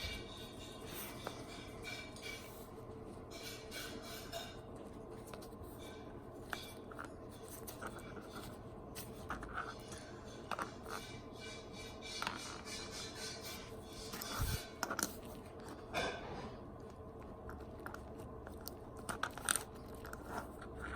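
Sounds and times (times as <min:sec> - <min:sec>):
plastic parts clicking and scraping: 0:00.0 - 0:20.9
steady low hum: 0:00.0 - 0:20.9.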